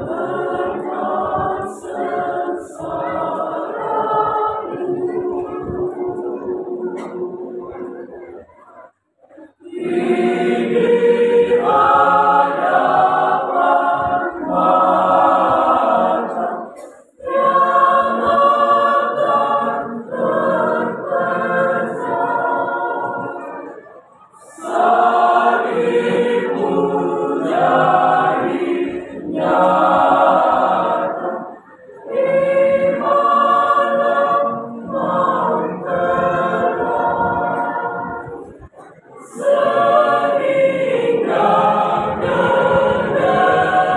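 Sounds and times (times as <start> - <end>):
mixed choir singing a hymn: 0.0 - 43.9.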